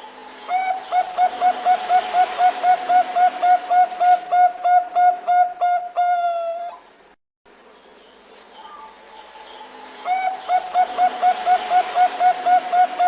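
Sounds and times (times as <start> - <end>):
dove cooing: 0.5 - 6.8, 8.7 - 13.0.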